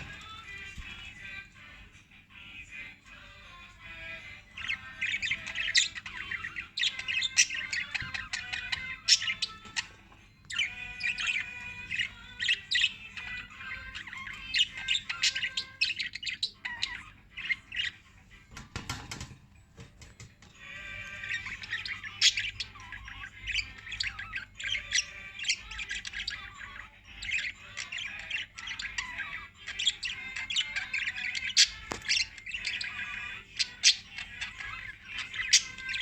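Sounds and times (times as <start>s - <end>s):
parrots chirping and squawking: 0.0s - 36.0s.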